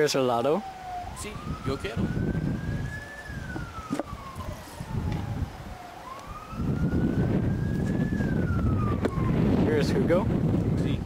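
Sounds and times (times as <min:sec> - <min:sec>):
siren wailing: 0:00.0 - 0:10.4
wind rumble on microphone: 0:00.8 - 0:11.0.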